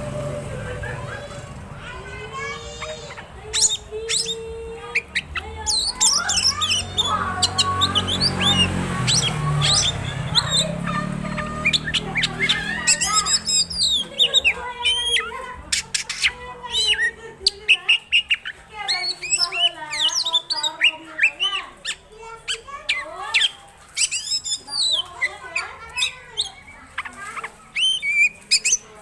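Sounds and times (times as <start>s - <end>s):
bird singing varied chirps: 2.6s - 29.0s.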